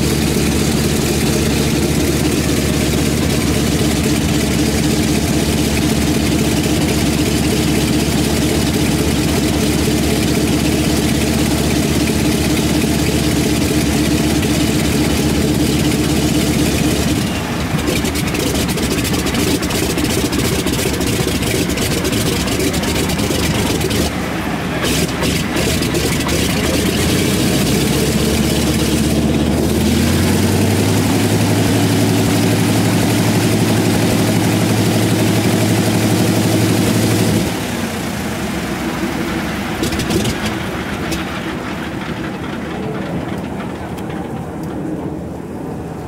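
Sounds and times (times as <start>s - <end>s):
piston aircraft engine running: 0.0s - 46.0s.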